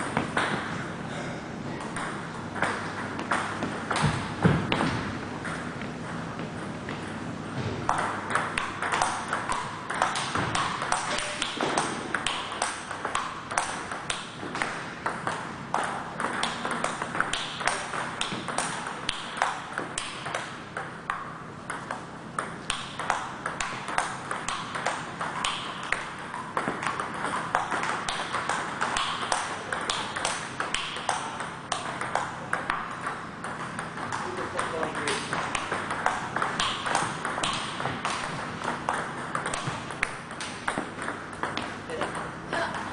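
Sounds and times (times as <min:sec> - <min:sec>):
table tennis ball clicks: 0:07.9 - 0:42.3.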